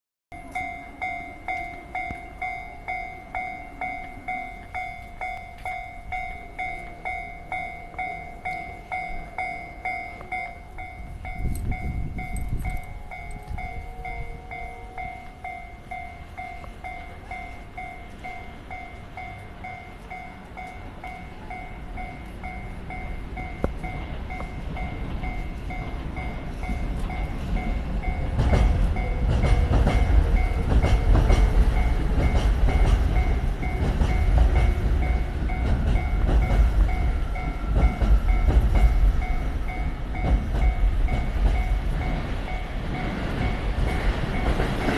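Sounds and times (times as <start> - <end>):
level crossing warning bell: 0.3 - 44.9
train rumble: 0.4 - 44.9.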